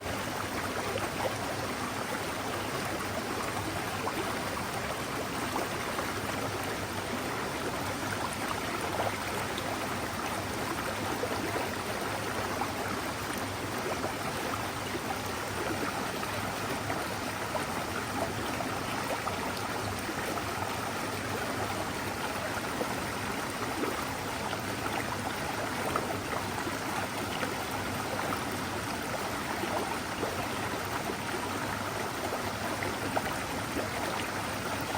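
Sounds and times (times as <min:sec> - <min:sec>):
mountain stream flowing: 0:00.0 - 0:34.9.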